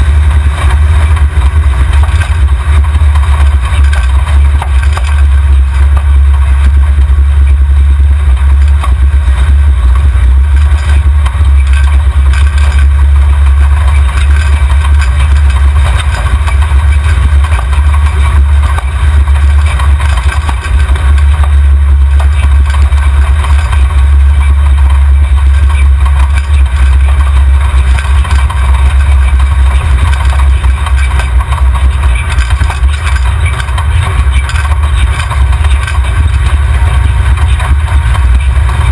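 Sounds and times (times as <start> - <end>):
engine low drone: 0.0 - 38.9.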